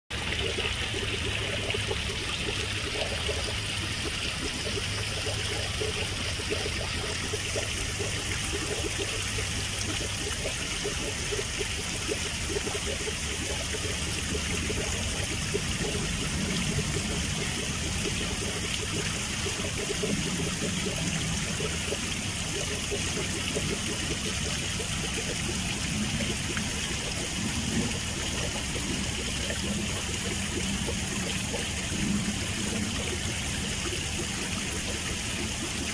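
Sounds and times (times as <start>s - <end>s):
waterfall trickling into pond: 0.1s - 35.9s.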